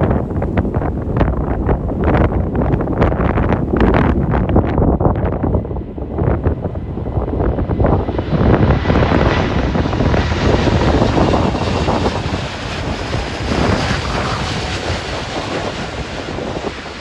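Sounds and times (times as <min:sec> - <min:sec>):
jet engines rushing overhead: 0:00.0 - 0:17.0
wind buffeting microphone: 0:00.0 - 0:17.0.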